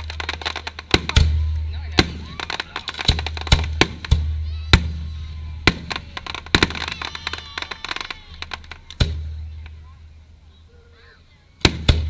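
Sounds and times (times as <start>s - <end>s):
fireworks bangs and booms: 0.0s - 9.8s, 11.6s - 12.0s
fireworks crackling: 0.0s - 10.6s, 11.5s - 12.0s.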